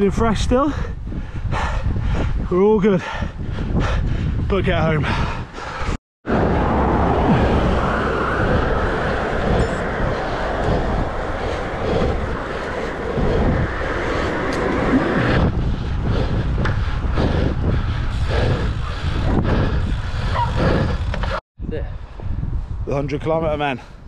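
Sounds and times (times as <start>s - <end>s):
bike tyre and road noise: 0.0s - 21.4s
wind rushing over microphone: 0.0s - 24.0s.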